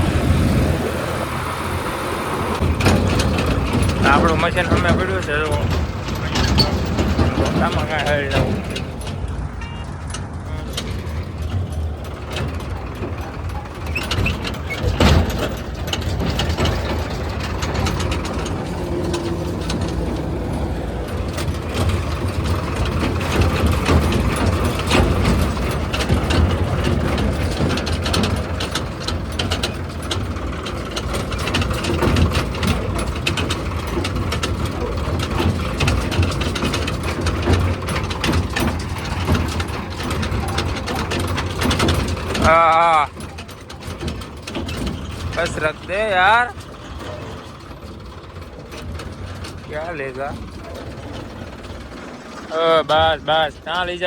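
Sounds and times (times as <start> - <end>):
diesel engine running: 0.0 - 54.0
machine clanks and knocks: 0.0 - 54.0.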